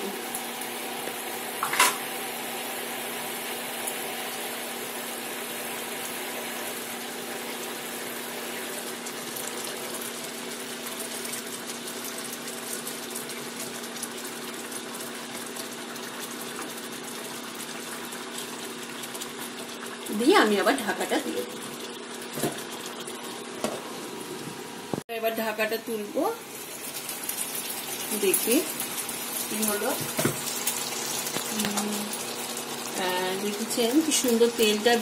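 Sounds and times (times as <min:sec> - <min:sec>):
curry bubbling and hissing: 0:00.0 - 0:25.0, 0:25.8 - 0:35.0.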